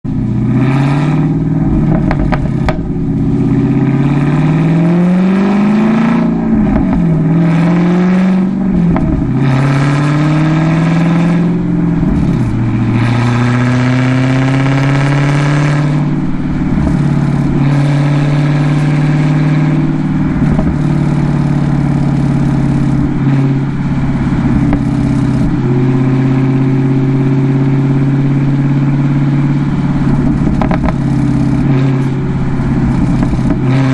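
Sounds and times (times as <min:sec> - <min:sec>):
car engine shifting gears: 0:00.0 - 0:33.9.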